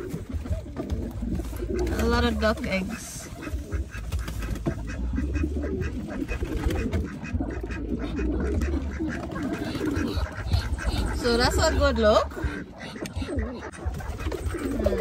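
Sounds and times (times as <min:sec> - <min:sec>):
birds making low-pitched calls: 0:00.0 - 0:15.0.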